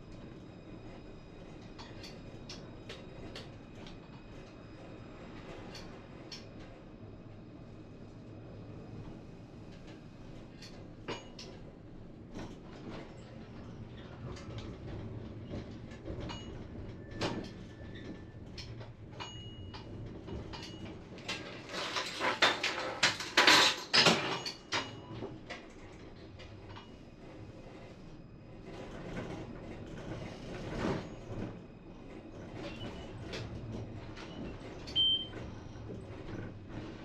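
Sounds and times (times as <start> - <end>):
tram running with low hum: 0.0 - 37.0.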